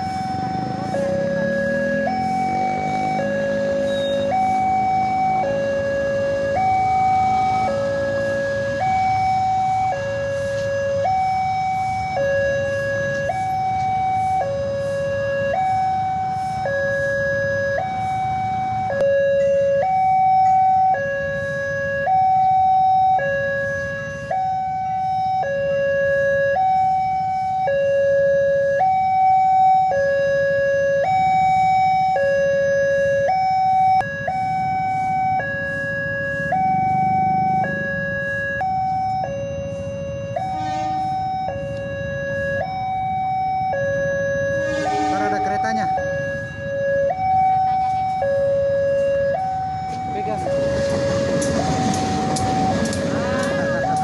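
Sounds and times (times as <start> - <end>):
level crossing two-tone alarm: 0.0 - 54.0
low rumble of traffic: 0.0 - 54.0.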